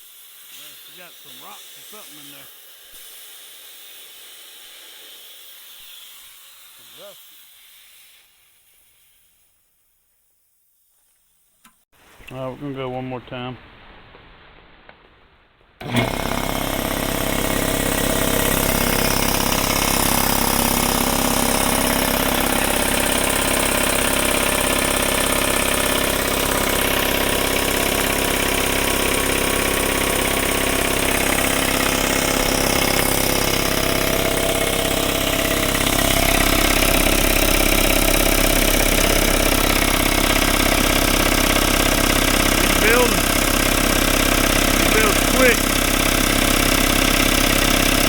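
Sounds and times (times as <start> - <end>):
air compressor running: 0.0 - 8.8, 15.8 - 48.0.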